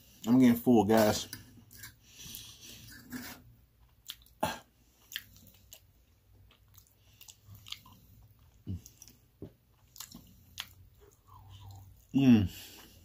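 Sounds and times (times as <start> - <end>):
soft chewing: 1.0 - 13.0.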